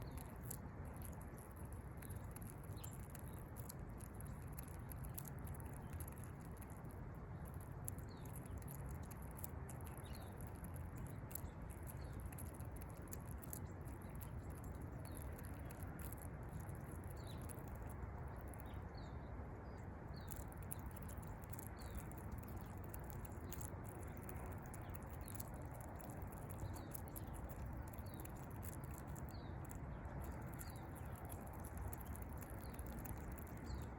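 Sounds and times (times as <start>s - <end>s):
low background rumble: 0.0s - 33.9s
squirrel cracking seeds: 0.0s - 33.9s.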